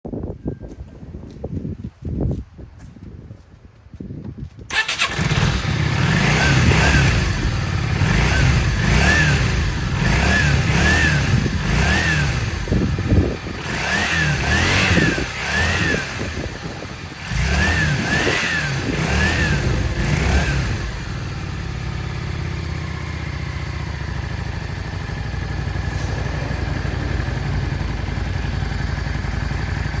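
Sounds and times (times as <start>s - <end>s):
motorcycle engine revving: 4.7s - 30.0s.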